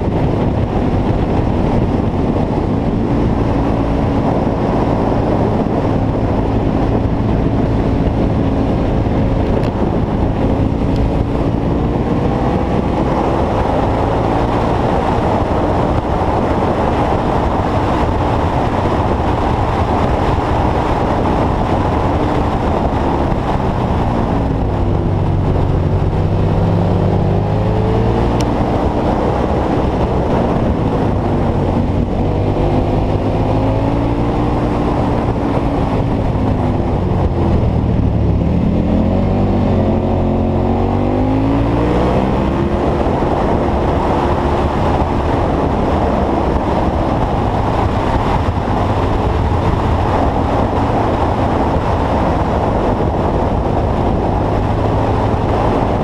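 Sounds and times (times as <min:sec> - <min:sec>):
motorcycle engine: 0:00.0 - 0:56.0
wind rush: 0:00.0 - 0:56.0.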